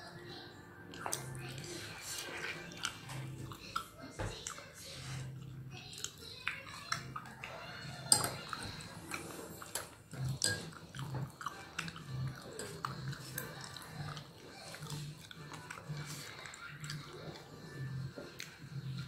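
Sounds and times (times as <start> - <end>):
person chewing food: 0.9 - 19.0.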